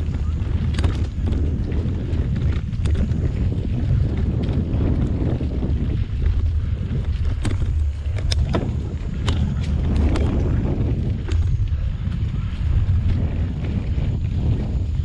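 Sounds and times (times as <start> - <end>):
bike clicks and rattles: 0.0 - 15.0
tyres rumbling on dirt: 0.0 - 15.0
wind buffeting microphone: 0.0 - 15.0.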